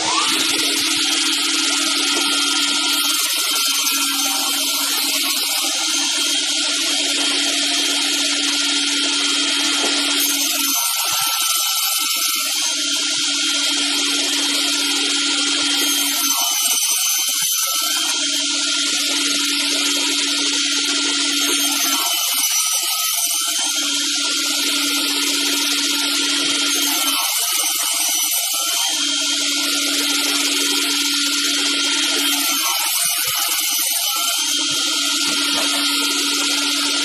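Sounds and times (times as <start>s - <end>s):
sawmill blades humming and whining: 0.0s - 37.0s.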